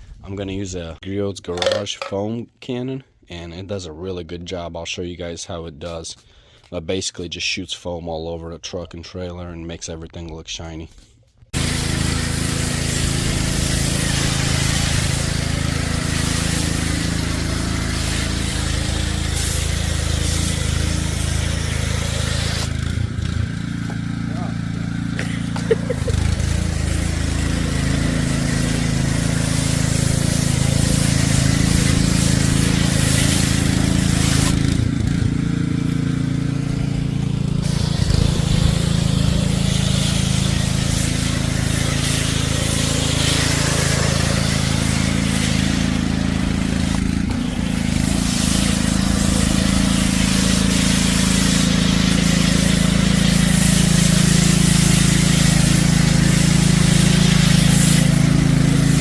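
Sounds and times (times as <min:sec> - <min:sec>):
pressure washer engine running: 0:11.5 - 0:59.0
loud hissing water spray: 0:11.6 - 0:59.0.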